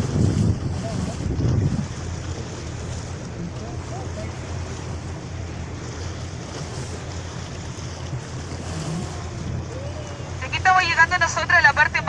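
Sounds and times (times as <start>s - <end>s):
wind buffeting microphone: 0.0s - 10.9s
boat engine droning: 0.0s - 12.0s
water rushing along hull: 0.0s - 12.0s.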